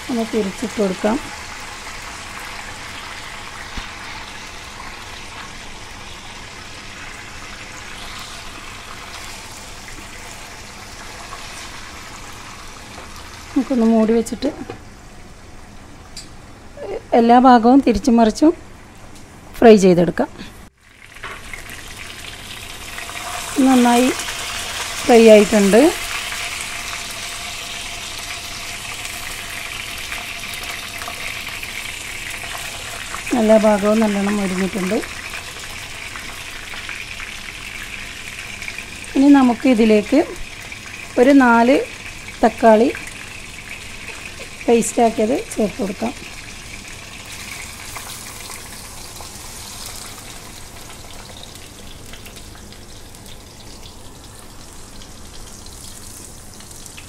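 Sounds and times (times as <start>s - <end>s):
hot oil sizzling: 0.0s - 16.8s, 20.7s - 57.0s.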